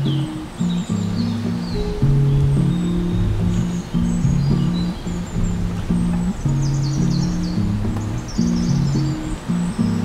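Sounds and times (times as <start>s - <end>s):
faint bird chirps: 0.0s - 10.0s
guitar and piano music: 0.0s - 10.0s.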